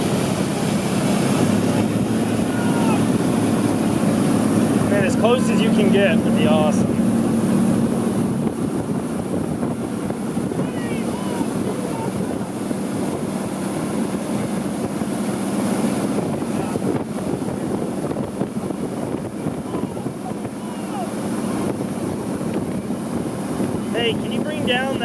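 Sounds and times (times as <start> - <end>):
motorboat engine hum: 0.0 - 25.0
wind on microphone: 0.0 - 25.0.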